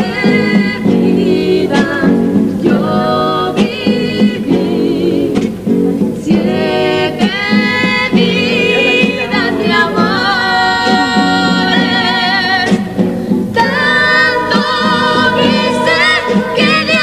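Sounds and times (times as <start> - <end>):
chorus singing with vibrato: 0.0 - 5.6, 6.2 - 12.8, 13.5 - 17.0.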